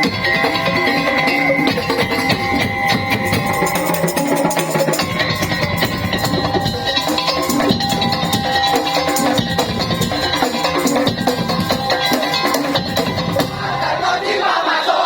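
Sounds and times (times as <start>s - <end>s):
slit drums and drums beating: 0.0s - 14.6s.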